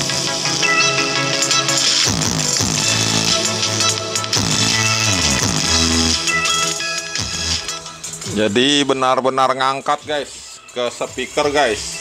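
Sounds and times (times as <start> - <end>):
electronic music with swooping bass: 0.0 - 12.0.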